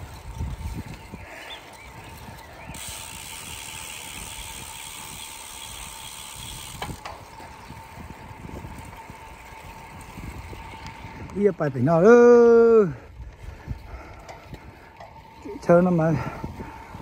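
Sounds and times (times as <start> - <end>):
bicycle tyres rolling on pavement: 0.0 - 17.0
wind rushing on microphone: 0.0 - 17.0.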